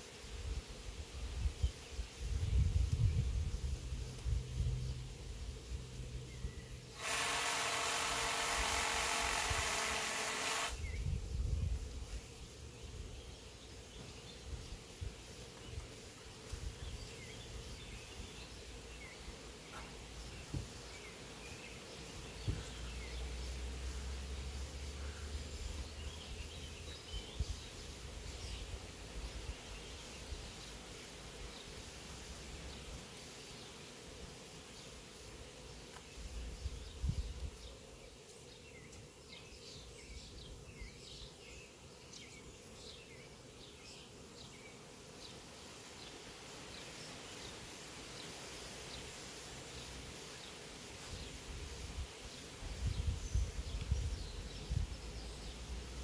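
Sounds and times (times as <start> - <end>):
bee swarm buzzing: 0.0 - 56.0.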